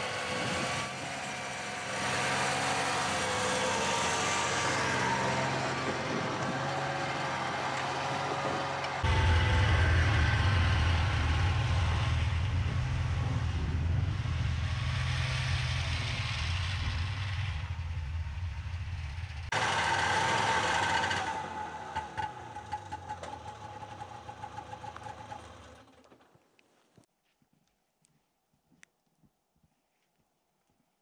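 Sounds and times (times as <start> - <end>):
snowmobile engine running: 0.0 - 26.2.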